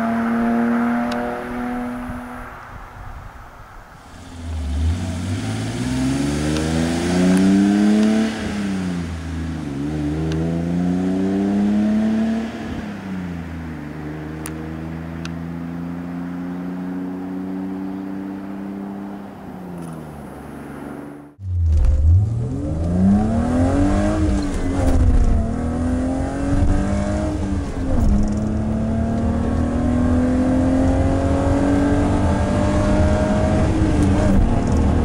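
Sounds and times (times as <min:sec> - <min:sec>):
car engine accelerating: 0:00.0 - 0:02.8, 0:04.0 - 0:35.0.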